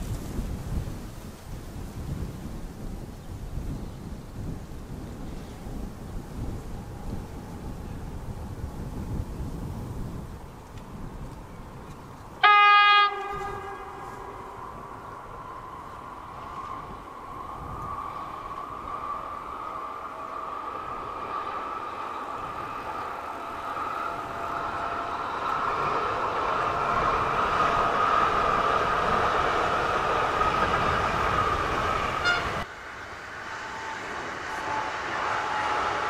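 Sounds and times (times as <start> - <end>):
electric train passing with whine: 0.0 - 36.0
electric train approaching: 2.0 - 36.0.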